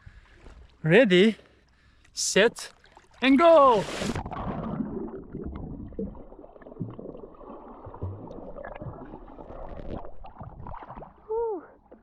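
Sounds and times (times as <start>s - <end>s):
water gurgling and sloshing: 0.0s - 12.0s.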